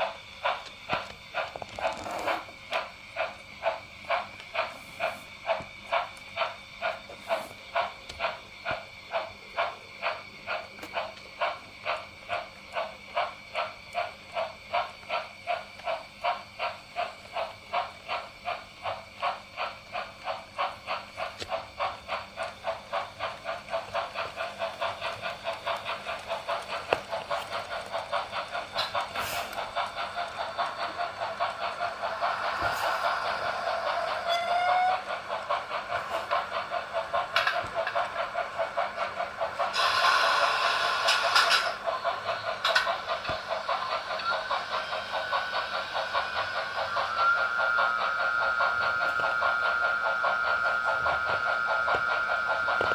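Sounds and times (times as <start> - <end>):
model steam locomotive chuffing: 0.0 - 52.9.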